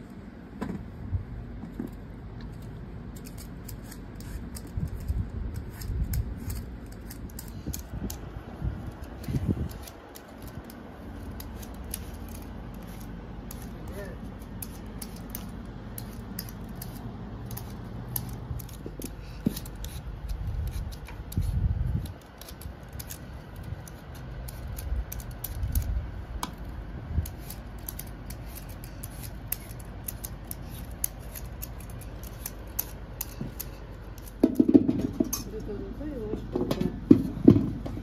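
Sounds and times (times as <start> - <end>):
peeler scraping mango skin: 2.5 - 34.7.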